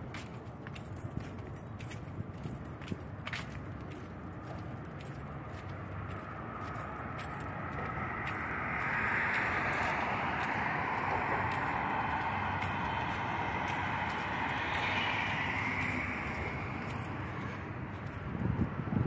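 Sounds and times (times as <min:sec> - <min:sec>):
light footsteps: 0:00.0 - 0:19.0
passing traffic rushing: 0:00.0 - 0:19.0.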